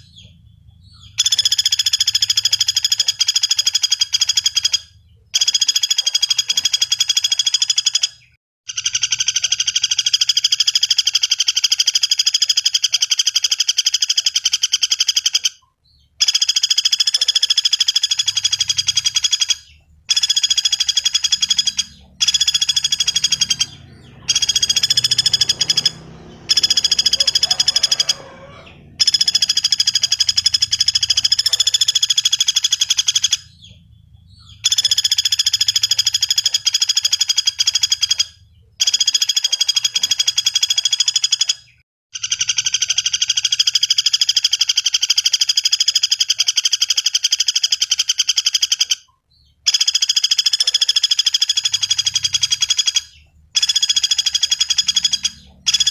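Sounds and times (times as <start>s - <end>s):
woodpecker rattling trill: 0.0s - 55.9s.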